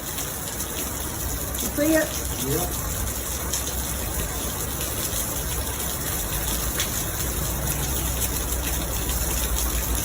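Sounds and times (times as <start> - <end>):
rushing floodwater: 0.0 - 10.0.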